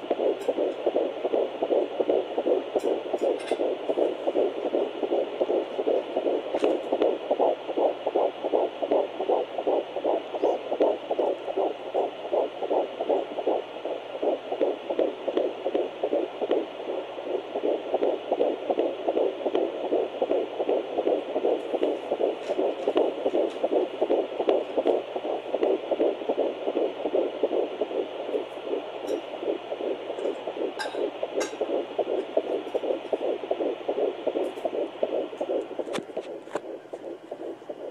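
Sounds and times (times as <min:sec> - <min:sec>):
faint steady hum: 0:00.0 - 0:37.9
fetal heartbeat on doppler monitor: 0:00.0 - 0:37.9.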